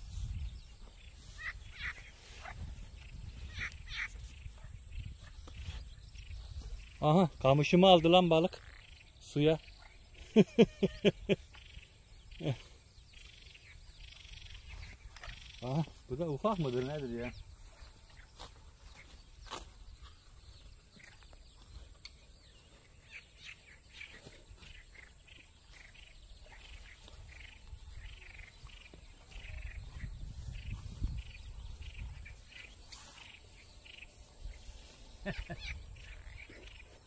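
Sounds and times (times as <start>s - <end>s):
small bird chirping: 0.0s - 37.0s.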